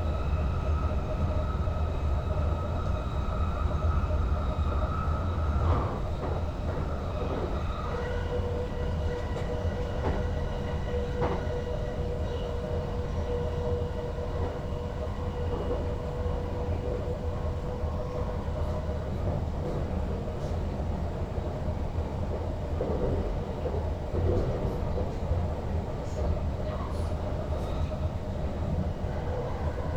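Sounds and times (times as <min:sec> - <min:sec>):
train rumbling from inside cab: 0:00.0 - 0:29.9.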